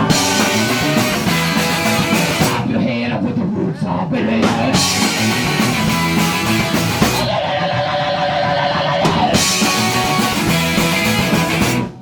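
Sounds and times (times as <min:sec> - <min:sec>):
garage rock band playing: 0:00.0 - 0:03.0, 0:04.2 - 0:12.0.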